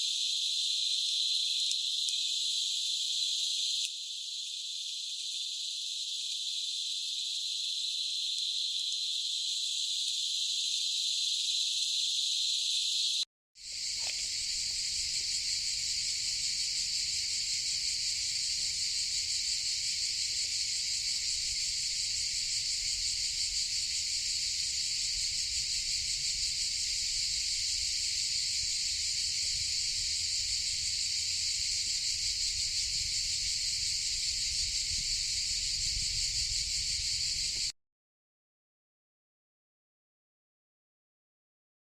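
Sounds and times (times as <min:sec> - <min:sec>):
cicadas buzzing: 0:00.0 - 0:37.7.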